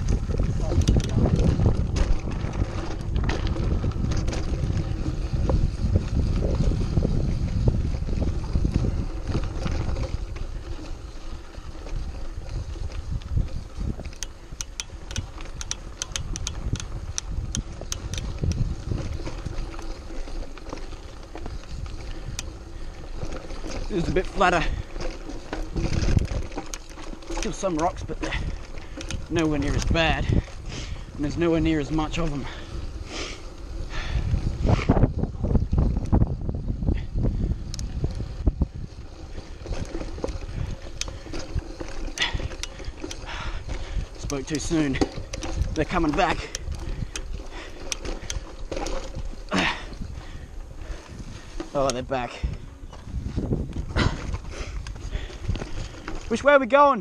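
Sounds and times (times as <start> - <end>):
wind on microphone: 0.0 - 56.3
bike rattling clicks: 0.0 - 57.0
bike rumbling over stones: 0.0 - 57.0.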